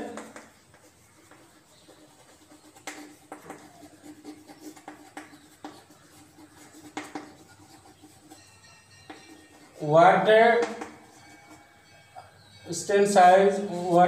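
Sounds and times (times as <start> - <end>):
chalk writing on a chalkboard: 0.0 - 12.5, 13.2 - 14.0.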